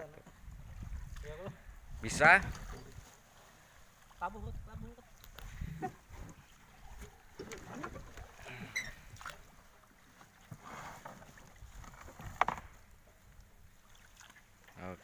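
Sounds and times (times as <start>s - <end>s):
paddle splashing water: 0.0s - 15.0s.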